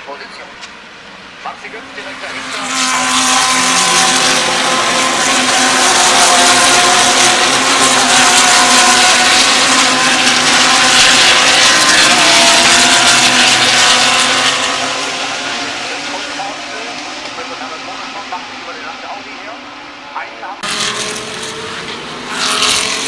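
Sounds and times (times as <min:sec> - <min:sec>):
race car engines at high revs: 0:00.0 - 0:23.0.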